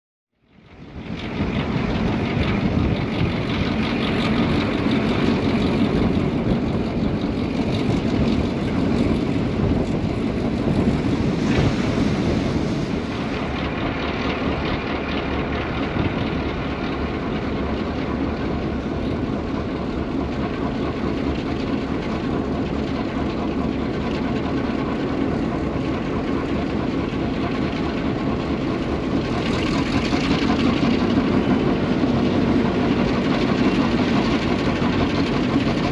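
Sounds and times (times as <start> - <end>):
diesel locomotive engine running: 0.4 - 35.9.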